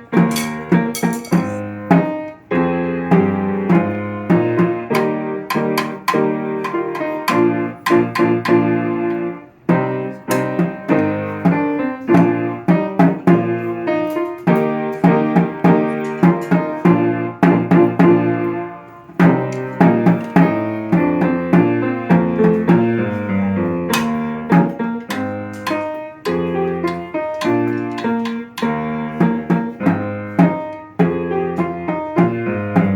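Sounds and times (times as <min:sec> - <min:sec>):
lively piano piece: 0:00.0 - 0:32.9.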